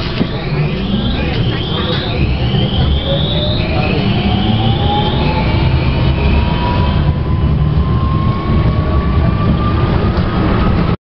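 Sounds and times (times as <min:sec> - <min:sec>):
low rumble of wheels on rails: 0:00.0 - 0:11.0
tram motor whine rising: 0:00.0 - 0:11.0.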